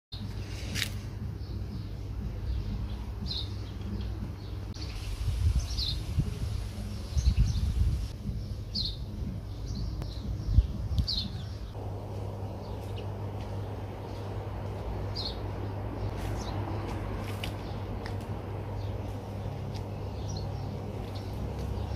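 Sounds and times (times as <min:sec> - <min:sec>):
small birds chirping: 0:00.2 - 0:21.9.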